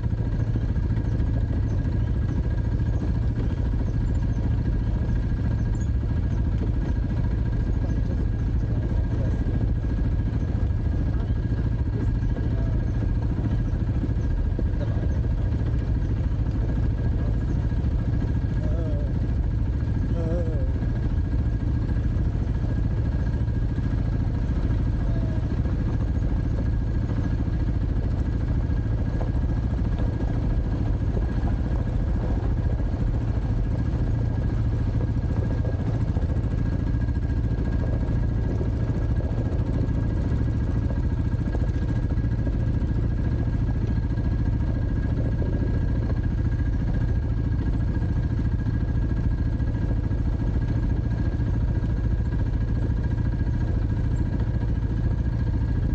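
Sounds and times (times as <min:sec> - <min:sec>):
dirt bike engine running: 0:00.0 - 0:55.9.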